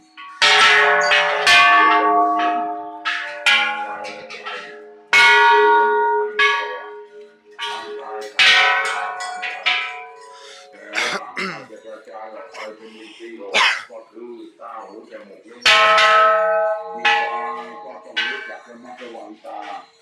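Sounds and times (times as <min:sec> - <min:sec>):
hanging bells struck and ringing: 0:00.0 - 0:13.0, 0:15.5 - 0:20.0.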